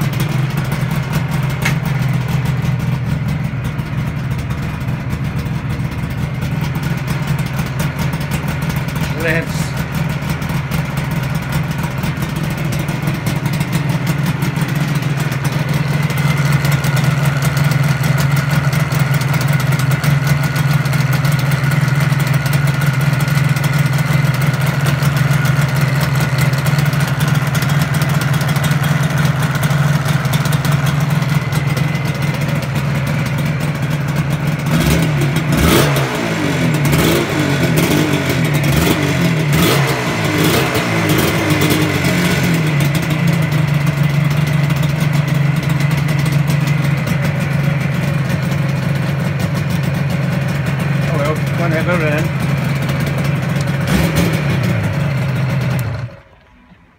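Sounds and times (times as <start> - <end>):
two-stroke engine idling and revving: 0.0 - 56.7.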